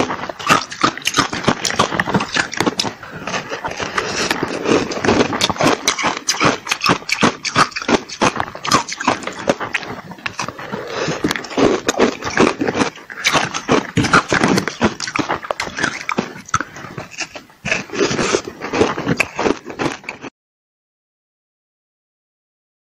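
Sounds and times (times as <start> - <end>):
ice being chewed: 0.0 - 20.3.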